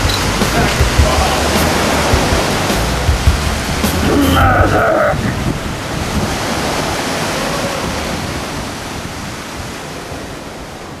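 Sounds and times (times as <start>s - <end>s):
waves rushing: 0.0s - 11.0s
wind at shore: 0.0s - 11.0s.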